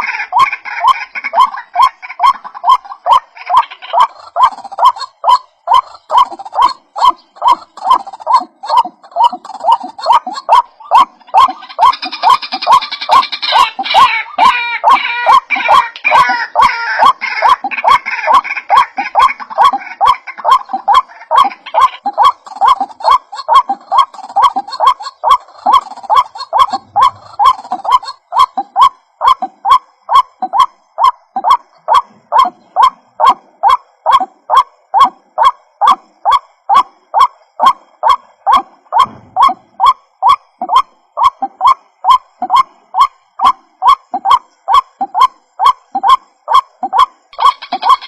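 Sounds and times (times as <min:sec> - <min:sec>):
bird calling harsh repeated notes: 0:00.0 - 0:48.0.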